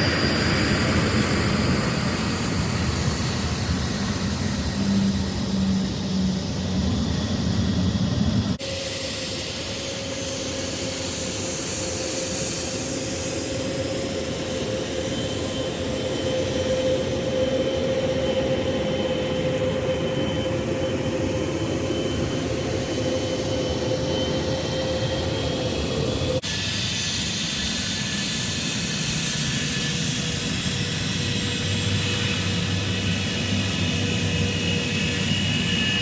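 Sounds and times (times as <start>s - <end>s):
high engine whine: 0.0s - 36.0s
jet engines running: 0.0s - 36.0s.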